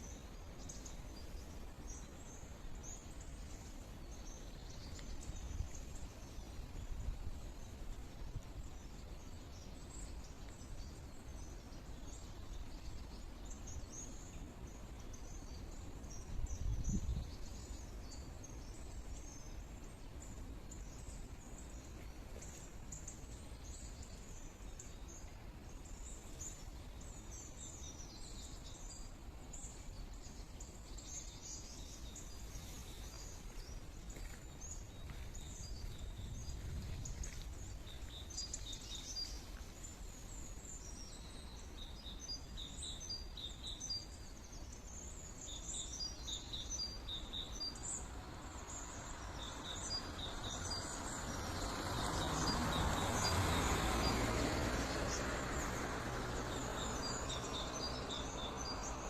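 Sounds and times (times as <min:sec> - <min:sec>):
low outdoor noise: 0:00.0 - 0:59.0
songbirds chirping and twittering: 0:00.0 - 0:59.0.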